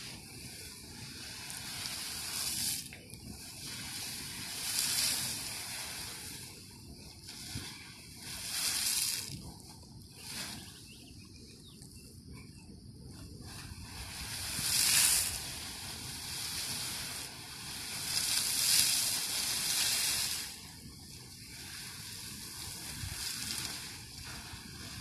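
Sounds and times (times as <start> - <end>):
geyser hissing and splashing: 0.0 - 11.1, 13.3 - 25.0.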